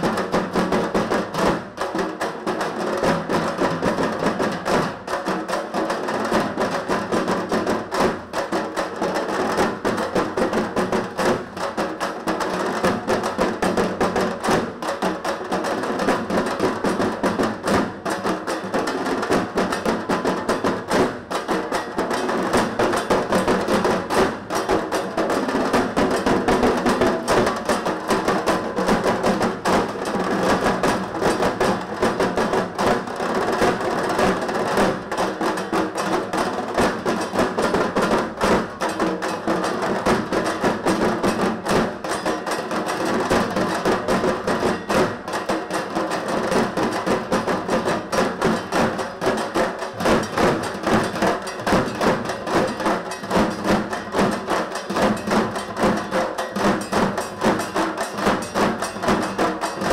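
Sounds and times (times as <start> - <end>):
barrel drums beaten rapidly: 0.0 - 59.9.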